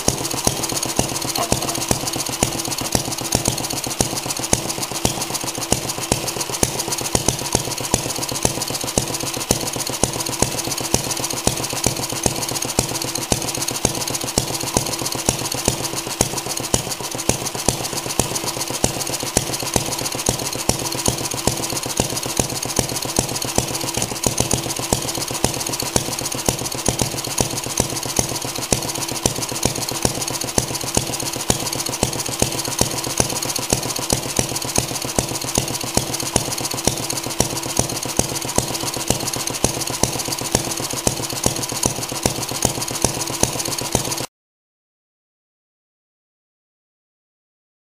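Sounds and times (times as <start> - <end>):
stationary engine running: 0.0 - 44.3.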